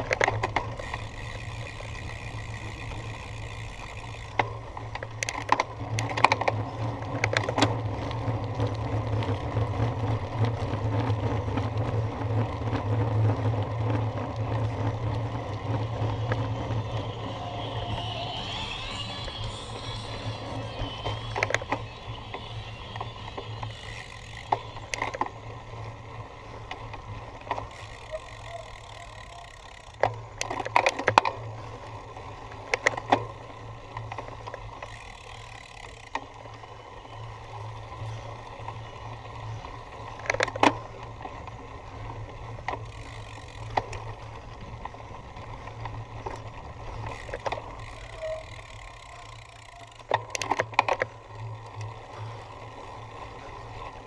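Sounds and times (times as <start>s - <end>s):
bike tyres rumbling: 0.0s - 54.0s.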